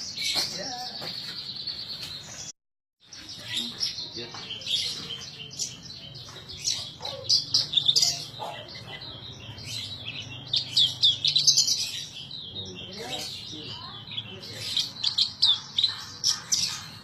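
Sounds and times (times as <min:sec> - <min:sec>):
lark chirps and trills: 0:03.1 - 0:17.0.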